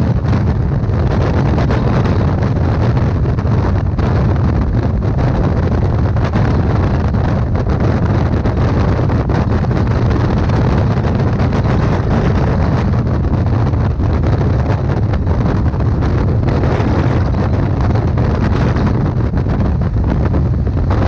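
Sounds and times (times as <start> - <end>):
motorcycle engine and road rumble: 0.0 - 21.0
wind buffeting microphone: 0.0 - 21.0.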